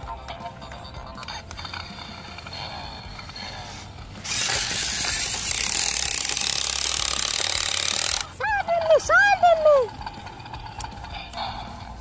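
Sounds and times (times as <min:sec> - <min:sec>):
toy truck electric motor and gears: 0:00.0 - 0:12.0.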